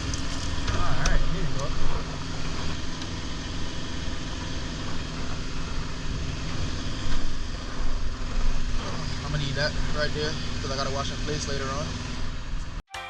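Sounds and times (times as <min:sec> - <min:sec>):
truck diesel engine idling: 0:00.0 - 0:12.7.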